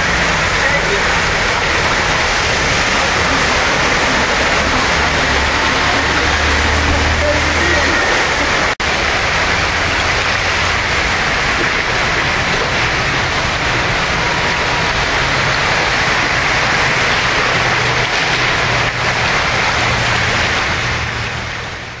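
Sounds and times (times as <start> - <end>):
floodwater rushing: 0.0 - 22.0
heavy rain: 0.0 - 22.0.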